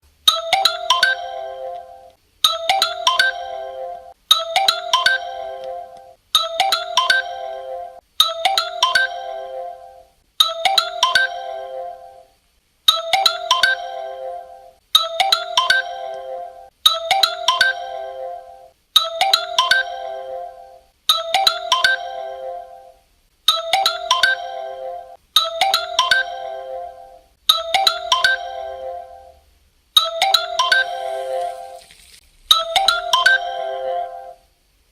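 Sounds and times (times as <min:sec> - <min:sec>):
phone ringtone mallet notes: 0:00.3 - 0:12.3, 0:12.9 - 0:29.4, 0:30.0 - 0:31.8, 0:32.5 - 0:34.4.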